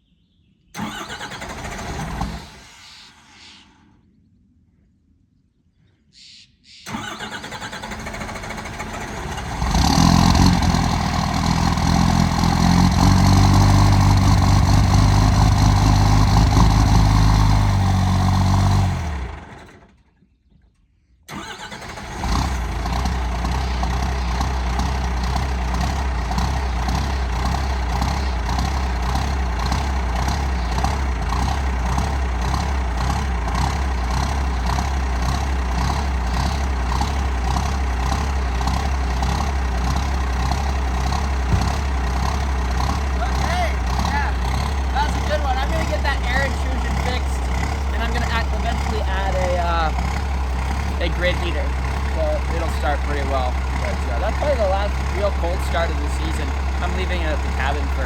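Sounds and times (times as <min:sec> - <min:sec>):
engine cranking: 0:00.8 - 0:02.9, 0:06.9 - 0:20.0, 0:21.3 - 0:58.0
diesel engine idling: 0:00.8 - 0:03.1, 0:06.9 - 0:20.0, 0:21.3 - 0:58.0
diesel engine running: 0:00.8 - 0:03.1, 0:06.9 - 0:20.0, 0:21.3 - 0:58.0.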